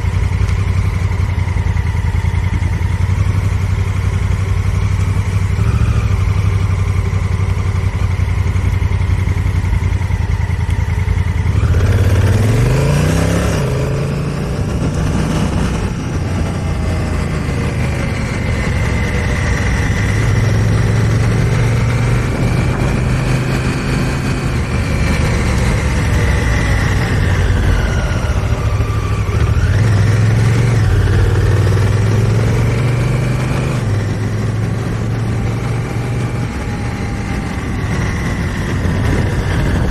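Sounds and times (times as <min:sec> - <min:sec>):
motorcycle engine running: 0:00.0 - 0:39.9
rushing wind: 0:00.0 - 0:39.9.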